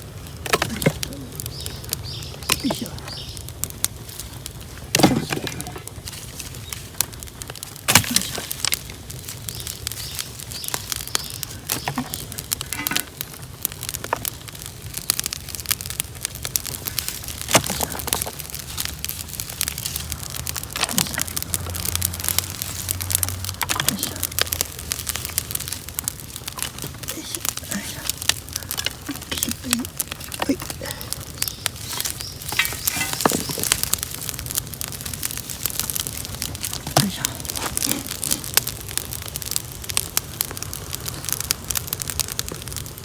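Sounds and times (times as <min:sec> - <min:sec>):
bonfire crackling and popping: 0:00.0 - 0:43.0.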